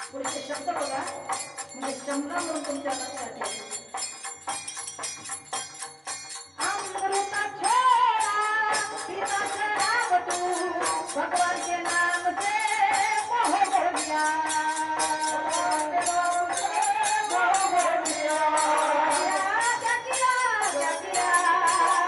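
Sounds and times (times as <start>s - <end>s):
woman singing through microphone: 0.0s - 3.9s, 6.6s - 22.0s
metallic hand percussion: 0.0s - 22.0s.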